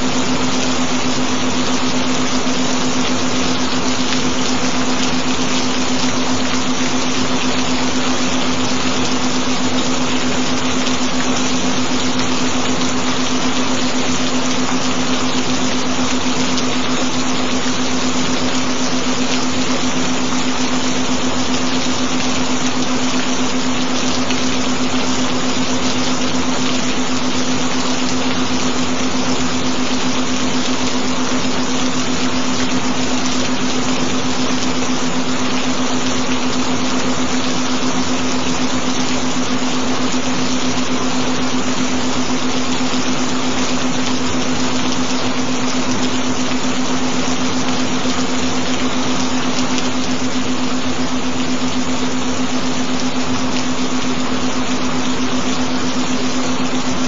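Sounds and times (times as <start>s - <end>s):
gentle rain: 0.0s - 57.0s.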